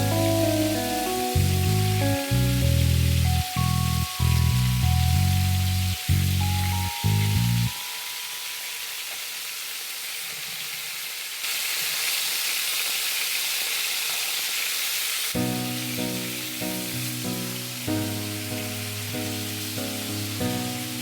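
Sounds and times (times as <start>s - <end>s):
chicken frying sizzle: 0.0s - 21.0s.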